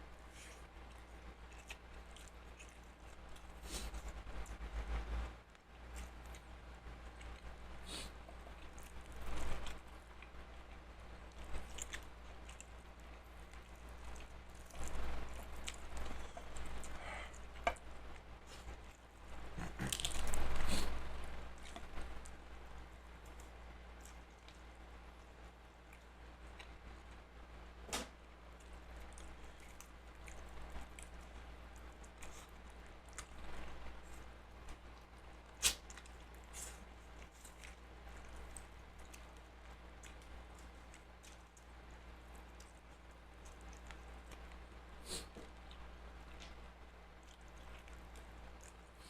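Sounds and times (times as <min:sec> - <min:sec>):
person chewing: 0:00.2 - 0:05.2, 0:05.8 - 0:27.2, 0:28.5 - 0:46.6, 0:47.2 - 0:49.0.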